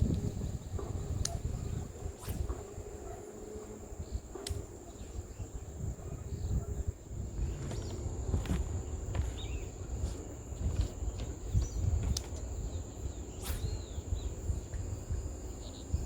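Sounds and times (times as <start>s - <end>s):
crickets droning: 0.0s - 16.0s.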